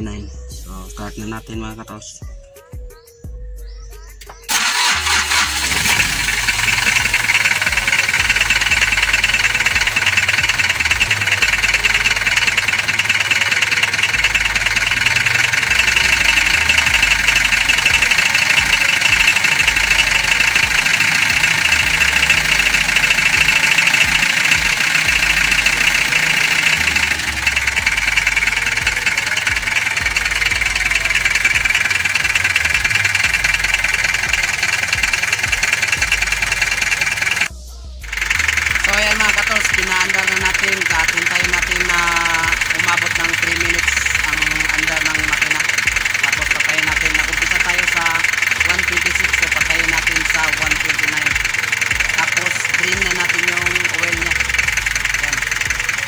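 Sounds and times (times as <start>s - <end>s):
diesel engine idling with clatter: 3.0s - 56.0s.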